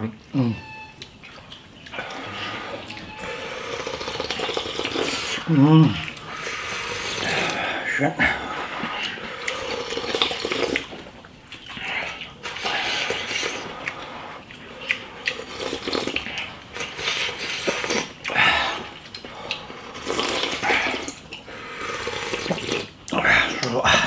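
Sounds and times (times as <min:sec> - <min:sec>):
people slurping soup: 0:01.3 - 0:24.0.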